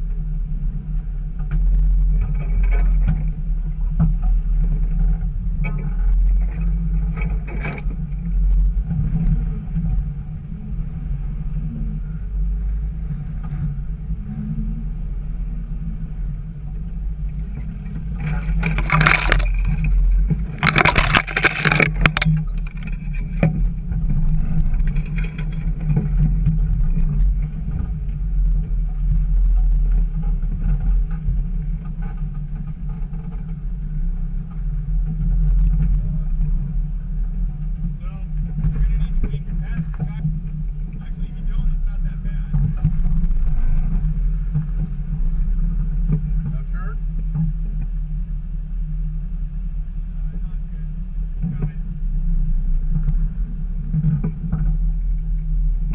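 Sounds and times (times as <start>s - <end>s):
car engine droning: 0.0s - 55.9s.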